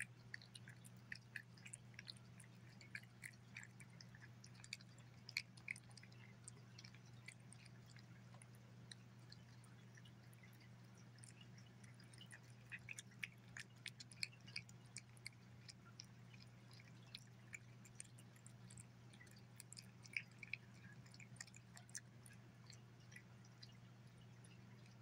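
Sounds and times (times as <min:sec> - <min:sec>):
cat licking and chewing: 0:00.0 - 0:25.0
steady low hum: 0:00.0 - 0:25.0.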